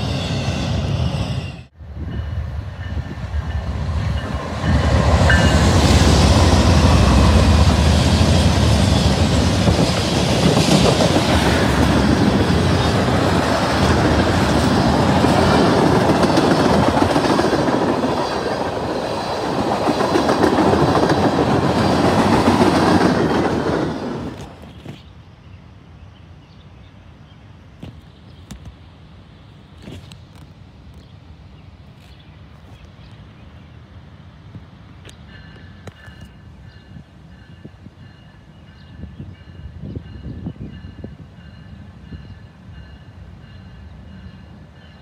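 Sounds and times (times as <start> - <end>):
freight train rumbling past: 0.0 - 27.6, 33.3 - 45.0.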